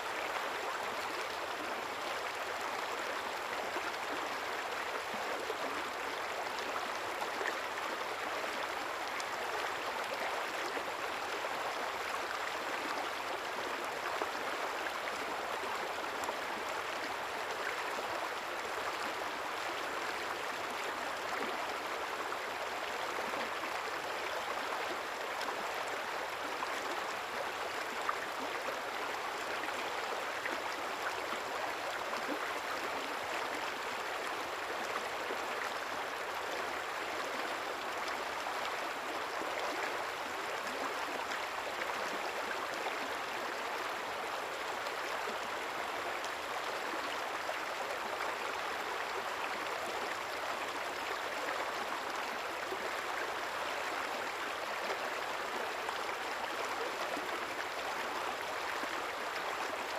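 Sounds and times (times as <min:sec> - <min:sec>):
river water babbling: 0:00.0 - 0:59.9.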